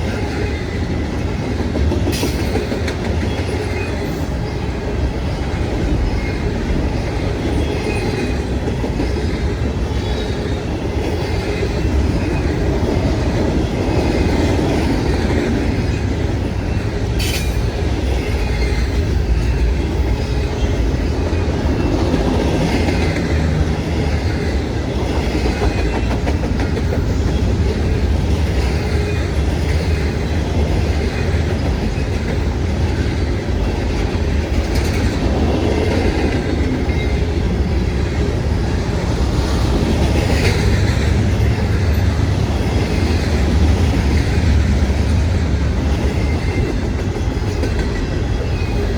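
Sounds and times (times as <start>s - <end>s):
train cars rumbling: 0.0s - 48.9s
wheels clacking over rail joints: 5.8s - 48.9s.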